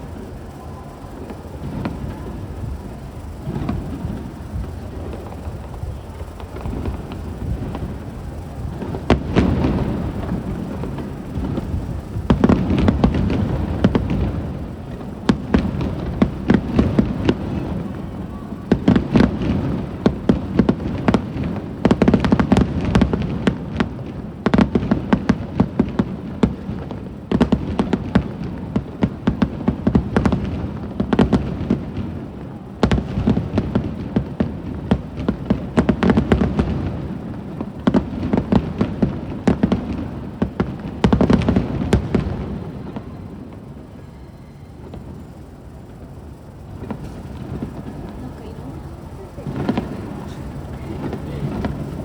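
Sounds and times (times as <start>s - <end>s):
fireworks booming: 0.0s - 52.0s
fireworks crackling pops: 0.0s - 52.0s.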